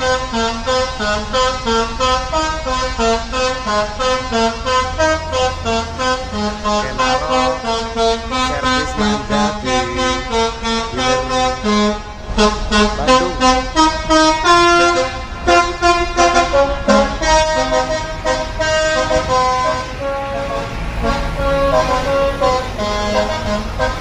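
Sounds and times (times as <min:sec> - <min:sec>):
bus multi-trumpet air horn tune: 0:00.0 - 0:24.0.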